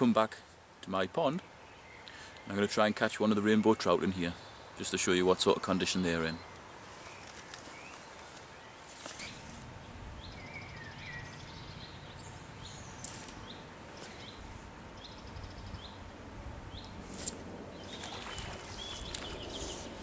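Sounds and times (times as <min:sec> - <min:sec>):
small birds chirping: 0:01.2 - 0:16.1, 0:16.7 - 0:20.0.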